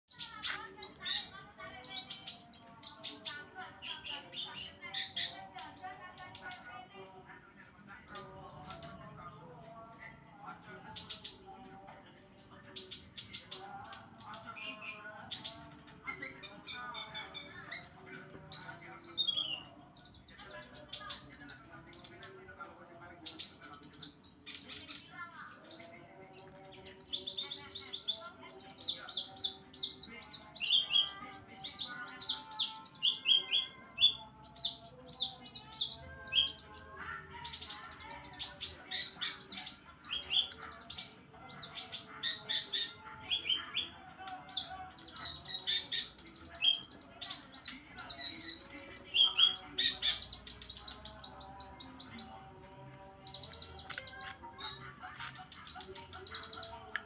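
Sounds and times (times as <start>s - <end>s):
bird singing chirps and trills: 0.0s - 57.0s.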